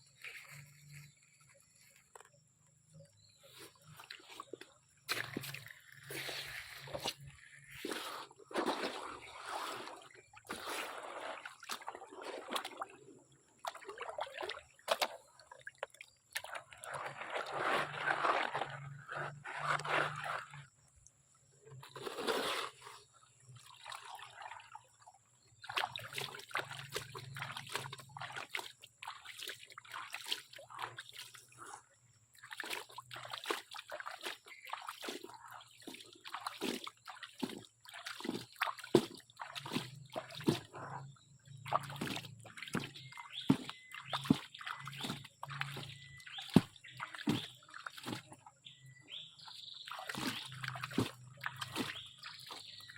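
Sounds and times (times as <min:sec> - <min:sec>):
water sloshing in a pan: 0:03.2 - 0:20.8, 0:21.7 - 0:52.9.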